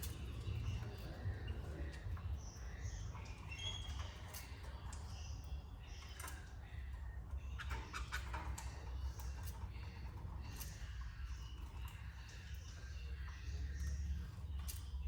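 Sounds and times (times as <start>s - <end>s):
birds tapping and scratching in cage: 0.0s - 15.0s.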